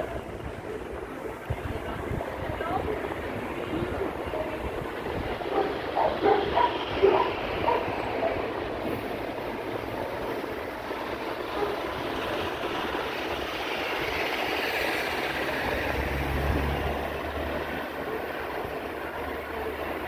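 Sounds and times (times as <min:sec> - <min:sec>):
rushing road and wind noise: 0:00.0 - 0:20.0
vehicle engine hum passing: 0:02.9 - 0:20.0.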